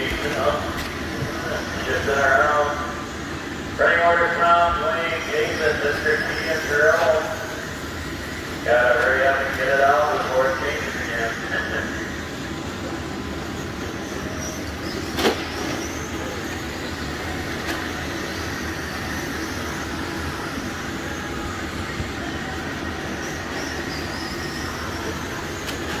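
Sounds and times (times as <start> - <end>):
hall noise rumble: 0.0 - 26.0.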